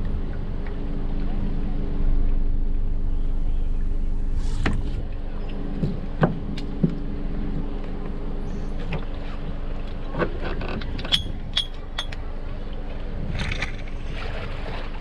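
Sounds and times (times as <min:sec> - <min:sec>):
water noise: 0:00.0 - 0:15.0
wind: 0:00.0 - 0:15.0.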